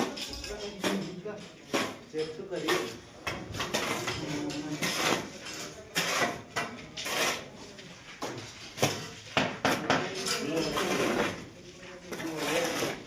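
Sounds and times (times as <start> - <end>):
metal trowel scraping mortar: 0.0 - 13.0.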